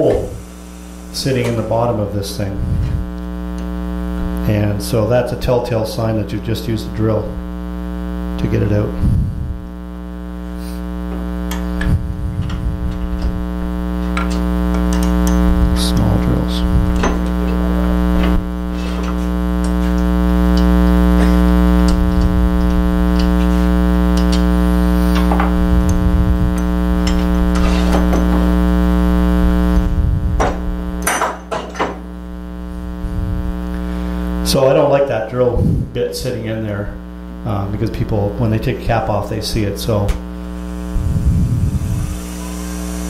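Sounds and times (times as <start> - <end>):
loud electrical hum: 0.0 - 43.0.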